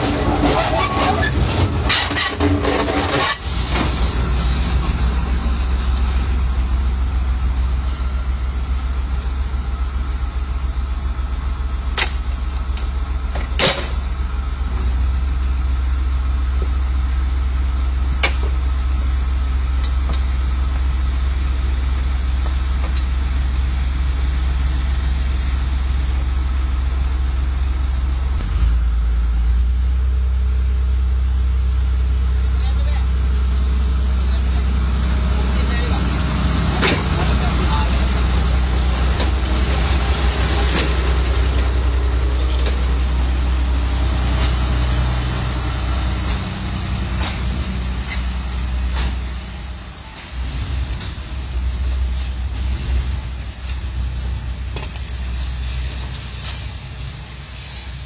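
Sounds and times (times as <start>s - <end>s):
crane engine droning: 0.0s - 58.0s.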